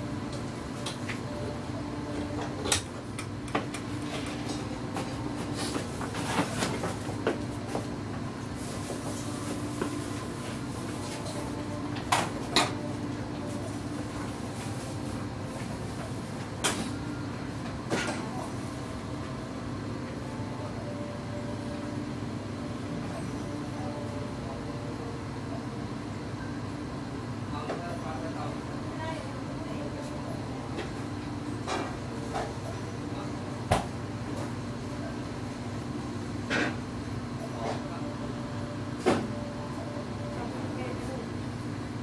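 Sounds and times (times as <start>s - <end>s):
kitchen machinery humming: 0.0s - 42.0s.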